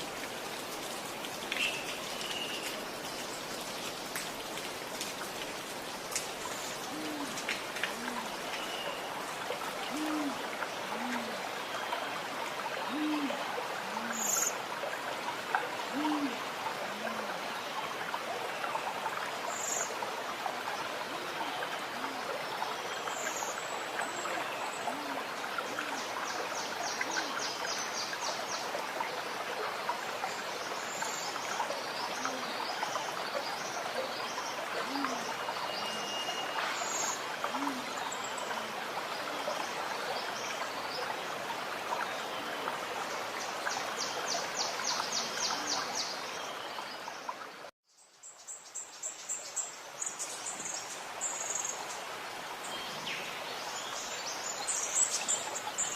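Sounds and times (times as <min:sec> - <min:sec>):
running water gurgling: 0:00.0 - 0:55.9.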